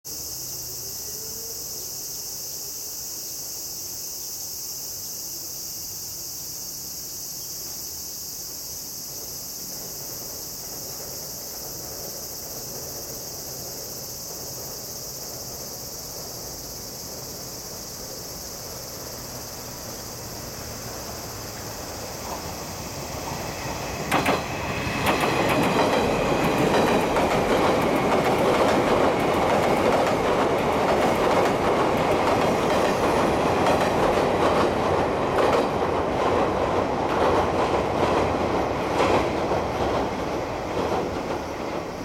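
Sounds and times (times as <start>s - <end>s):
buzzing insect chorus: 0.1s - 42.0s
electric train rumble: 0.1s - 42.0s.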